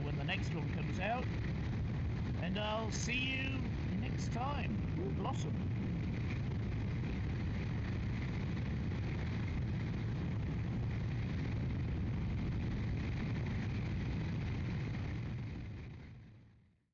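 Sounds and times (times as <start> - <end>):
motorcycle engine hum: 0.0 - 15.5
wind and road noise: 0.0 - 16.6.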